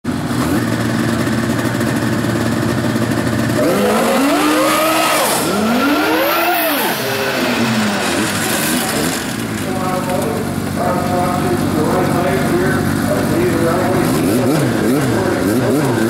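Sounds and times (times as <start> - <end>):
snowmobile engine idling and revving: 0.1 - 16.0.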